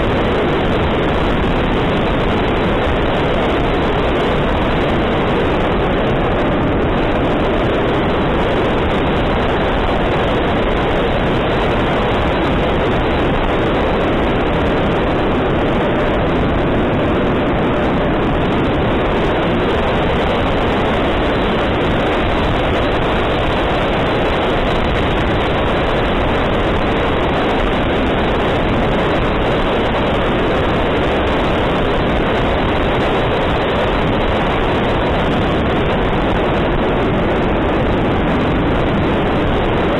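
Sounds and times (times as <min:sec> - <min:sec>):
electric ducted-fan noise: 0:00.0 - 0:39.9
rush of airflow: 0:00.0 - 0:39.9.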